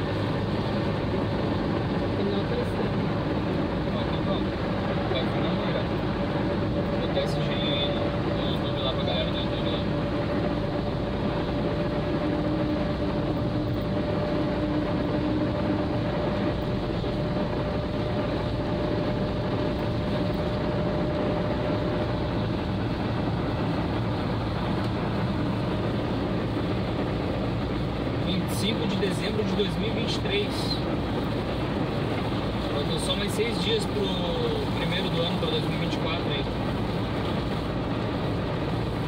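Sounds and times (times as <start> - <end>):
car engine running: 0.0 - 39.0
faint steady whine: 0.0 - 39.0.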